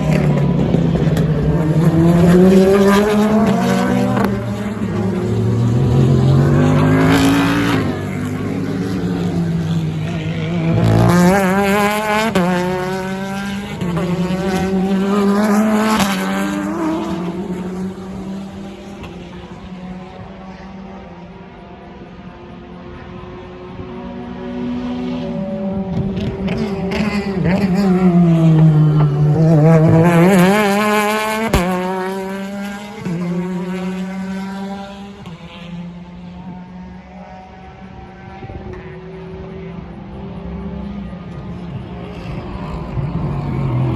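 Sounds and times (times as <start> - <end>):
race car engines at full throttle: 0.0 - 43.9.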